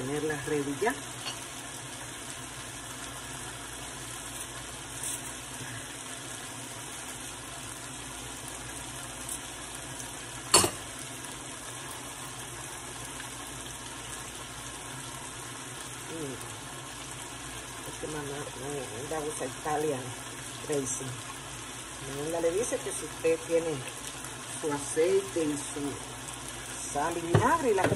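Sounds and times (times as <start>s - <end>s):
food sizzling in a frying pan: 0.0s - 27.9s.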